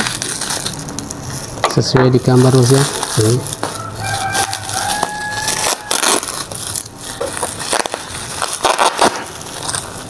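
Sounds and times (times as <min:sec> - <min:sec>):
bubble wrap crinkling and crackling: 0:00.0 - 0:10.0.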